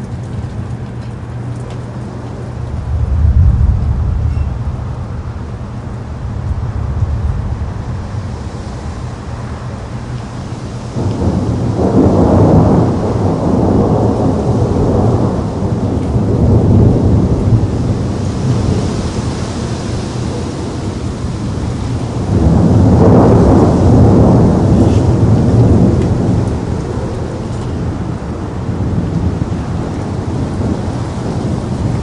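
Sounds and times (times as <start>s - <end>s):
rain hiss: 0.0s - 32.0s
rolling thunder: 0.0s - 32.0s.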